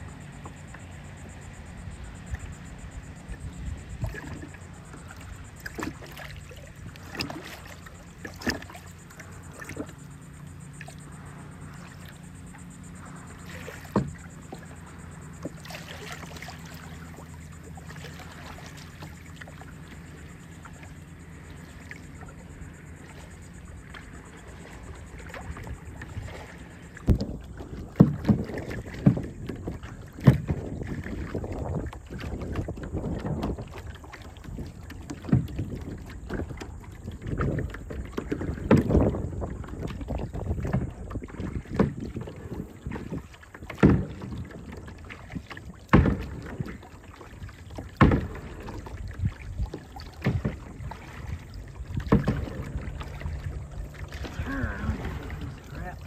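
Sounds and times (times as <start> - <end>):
steady low rumble: 0.0 - 41.6, 48.2 - 56.0
paddle splashing in water: 0.0 - 56.0.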